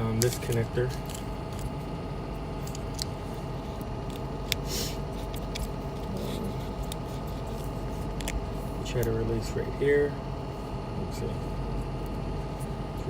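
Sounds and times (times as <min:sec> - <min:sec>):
heater blower hum: 0:00.0 - 0:13.0.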